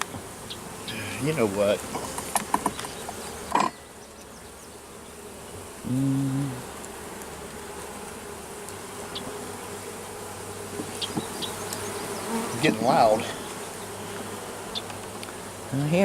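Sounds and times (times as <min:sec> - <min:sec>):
bee buzzing past close: 0:00.0 - 0:16.0
bee colony buzzing: 0:00.0 - 0:16.0.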